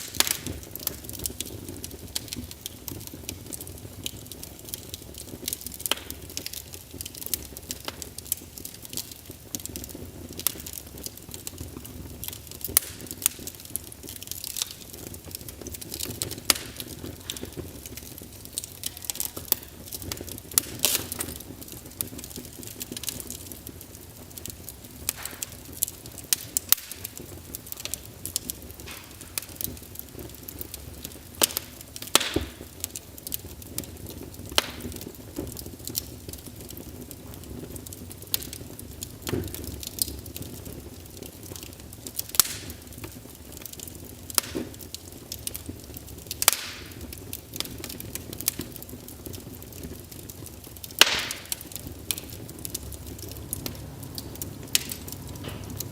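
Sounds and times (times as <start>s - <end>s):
fireplace fire crackling: 0.0s - 55.9s.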